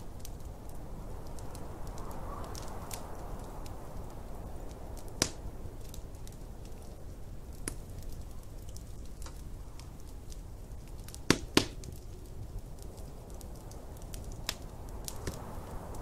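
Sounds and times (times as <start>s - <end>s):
snowstorm wind rumble: 0.0s - 16.0s
wood fire crackling and popping: 0.0s - 16.0s.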